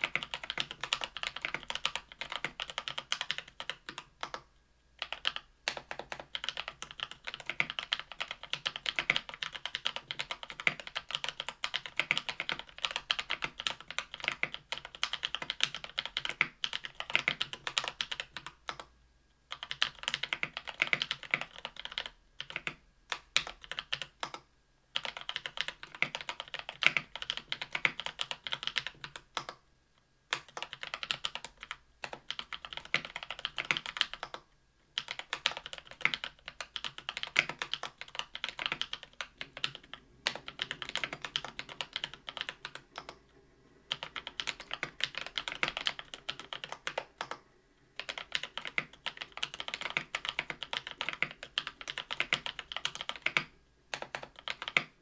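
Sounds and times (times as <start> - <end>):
fast mechanical keyboard typing: 0.0 - 18.9, 19.5 - 24.4, 25.0 - 29.6, 30.3 - 43.2, 43.8 - 55.0.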